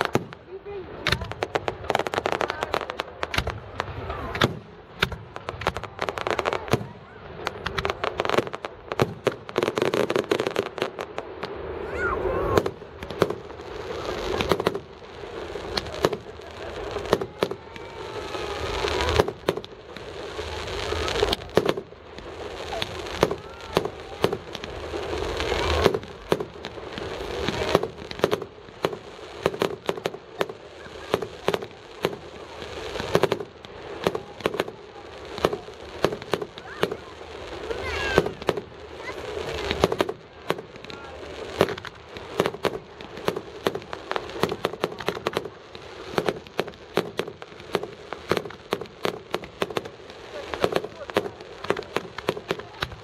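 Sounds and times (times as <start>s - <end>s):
crowd voices: 0.0s - 53.0s
fireworks bangs: 0.0s - 53.0s
fireworks crackling: 0.0s - 53.0s.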